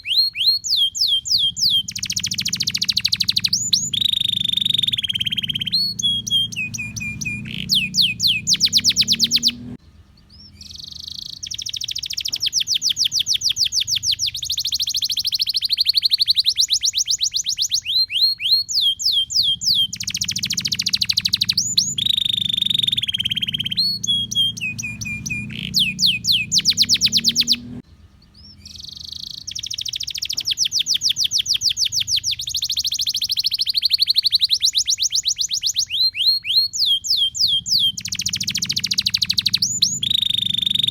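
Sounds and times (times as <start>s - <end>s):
canary singing: 0.0s - 40.9s
faint low hum: 0.0s - 40.9s.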